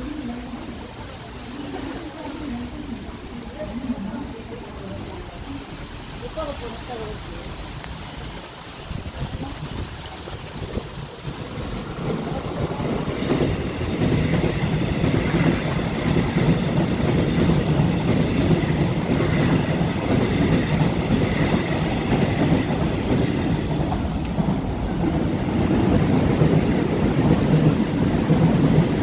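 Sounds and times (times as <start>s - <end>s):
train rumble passing: 0.0s - 29.0s.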